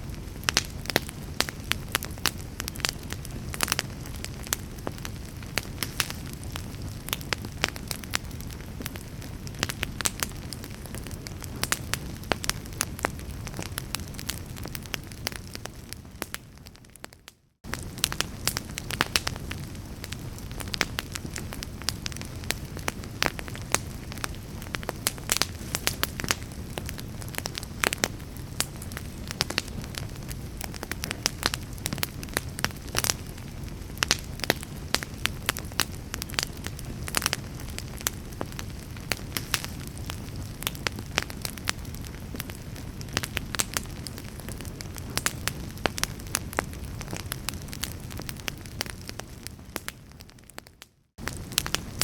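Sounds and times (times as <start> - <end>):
fire flames rumbling: 0.0 - 52.0
firewood crackling and popping: 0.0 - 52.0.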